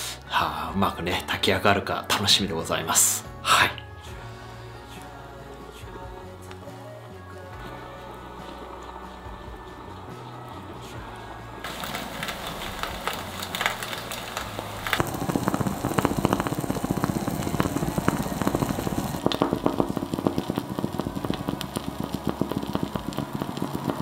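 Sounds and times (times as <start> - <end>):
food crackling and sputtering: 4.6 - 24.0.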